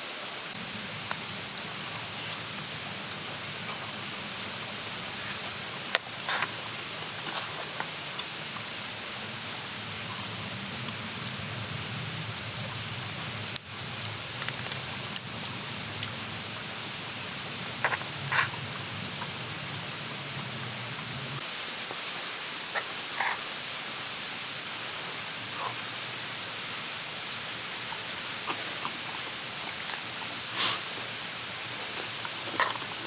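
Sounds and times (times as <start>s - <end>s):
campfire crackling: 0.4s - 33.0s.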